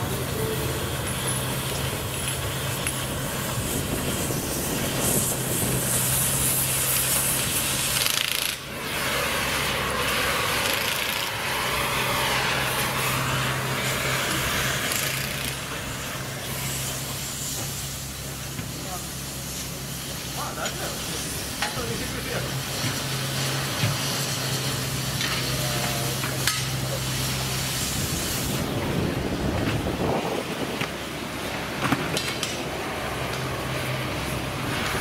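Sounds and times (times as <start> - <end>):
rail saw grinding steel: 0.0 - 35.0.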